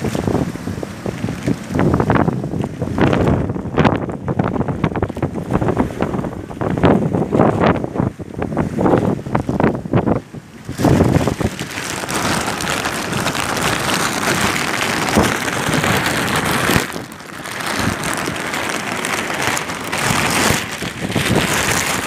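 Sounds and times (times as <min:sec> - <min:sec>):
driving rain: 0:00.0 - 0:22.0
typhoon wind: 0:00.0 - 0:22.0.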